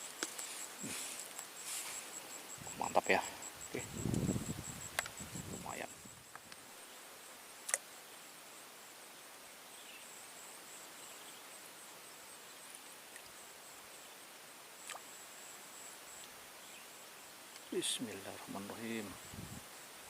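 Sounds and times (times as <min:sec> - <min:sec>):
high-pitched insect trill: 0:00.0 - 0:20.0.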